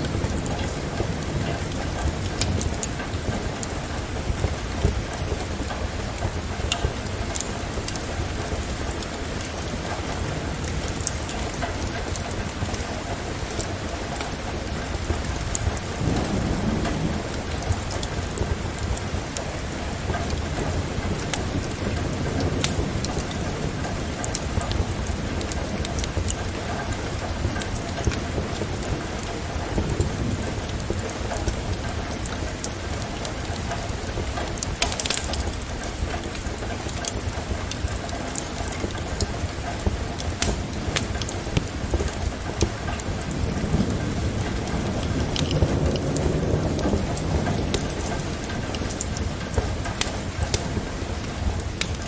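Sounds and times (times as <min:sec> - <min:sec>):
distant thunder rumble: 0:00.0 - 0:52.0
steady rain: 0:00.0 - 0:52.0
wood fire crackling: 0:00.0 - 0:52.0.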